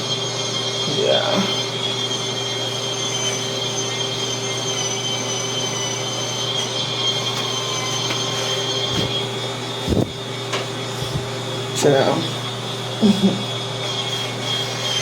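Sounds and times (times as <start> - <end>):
electric spin scrubber whining: 0.0 - 15.0.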